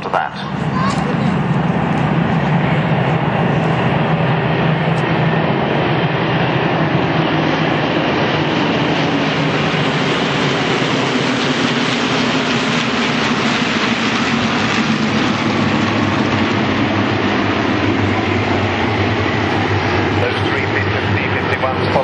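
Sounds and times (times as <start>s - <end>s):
fighter plane engines droning: 0.0s - 22.0s.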